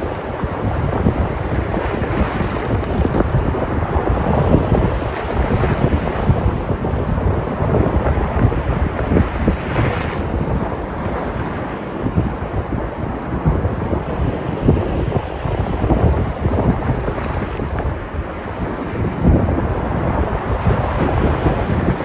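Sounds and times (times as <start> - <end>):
waves breaking: 0.0 - 22.0
wind buffeting microphone: 0.0 - 22.0.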